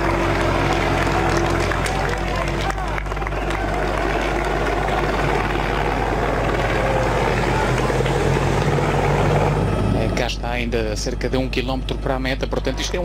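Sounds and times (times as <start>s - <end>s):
vehicle motor drone: 0.0s - 13.0s.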